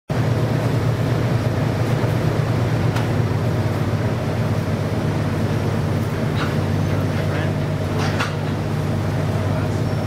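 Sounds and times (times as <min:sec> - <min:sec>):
ship engines droning: 0:00.1 - 0:10.0.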